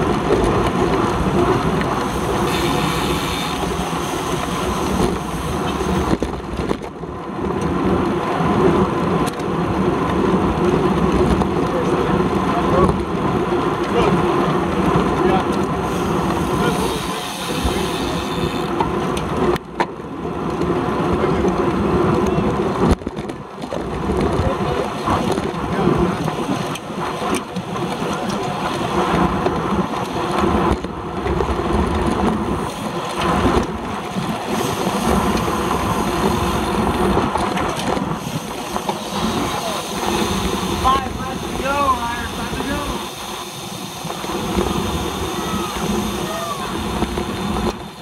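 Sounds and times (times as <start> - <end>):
bike tyres on asphalt: 0.0 - 48.0
wind rushing on microphone: 0.0 - 48.0.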